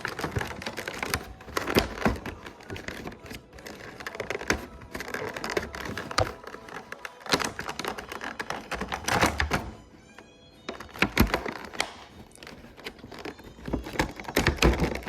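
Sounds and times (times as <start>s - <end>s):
plastic toy pieces clicking: 0.0s - 10.0s, 10.6s - 15.0s
packaging rustling: 0.0s - 15.0s.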